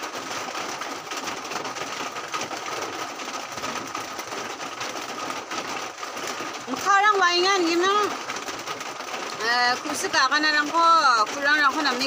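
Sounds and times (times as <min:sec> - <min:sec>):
dense rattling noise: 0:00.0 - 0:12.0.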